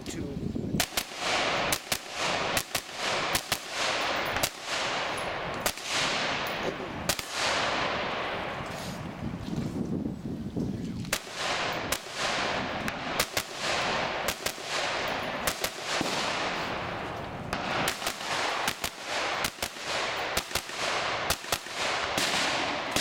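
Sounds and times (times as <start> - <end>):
rifle shots echoing: 0.8 - 8.7, 11.1 - 23.0.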